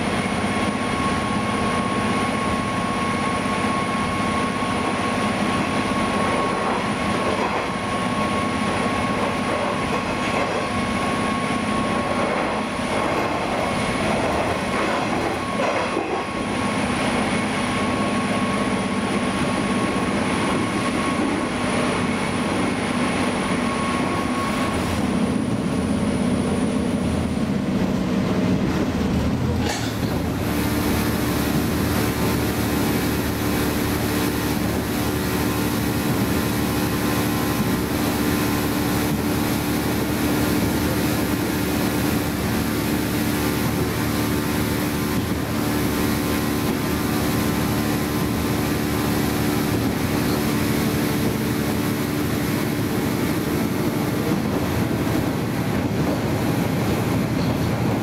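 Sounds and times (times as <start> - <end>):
diesel engine drone: 0.0 - 58.0
train wheels on rails: 0.0 - 58.0.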